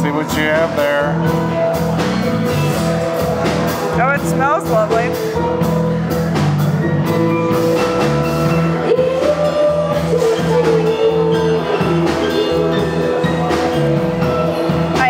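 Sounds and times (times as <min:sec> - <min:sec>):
music with percussion: 0:00.0 - 0:15.0.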